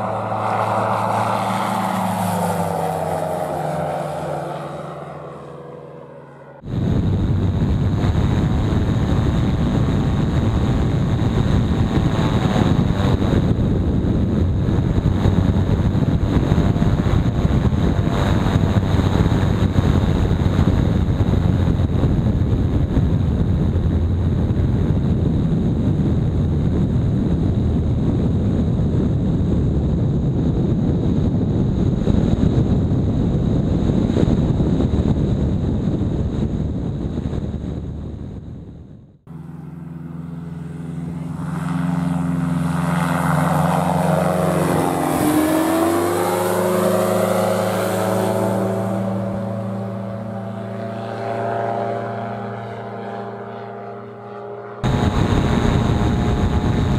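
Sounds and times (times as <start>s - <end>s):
aircraft engine and propeller: 0.0s - 56.9s
wind noise on microphone: 6.6s - 39.3s, 40.8s - 56.9s.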